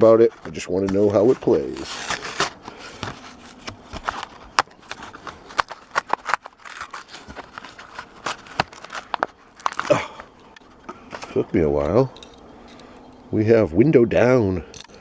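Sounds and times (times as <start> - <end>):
plastic packaging clicking and crinkling: 0.0 - 13.3.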